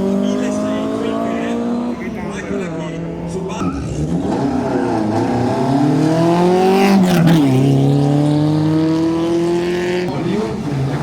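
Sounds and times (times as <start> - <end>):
racing car engine accelerating: 0.0 - 11.0.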